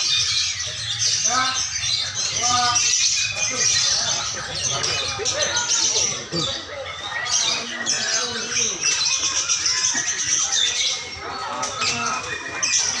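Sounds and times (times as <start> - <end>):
lovebirds chattering and trilling: 0.0 - 13.0.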